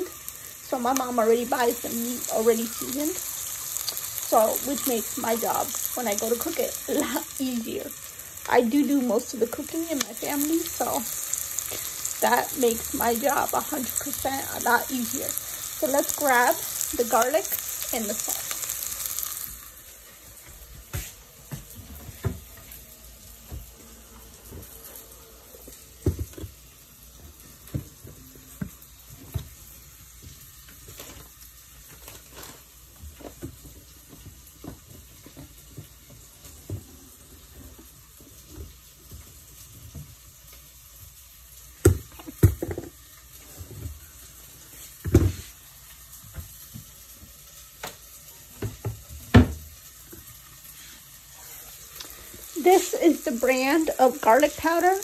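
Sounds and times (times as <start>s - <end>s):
meat sizzling in a pan: 0.0s - 55.0s.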